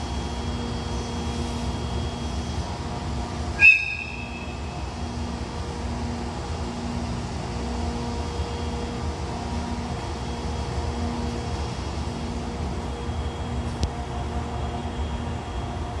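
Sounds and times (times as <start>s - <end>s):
locomotive machinery whirring drone: 0.0s - 16.0s.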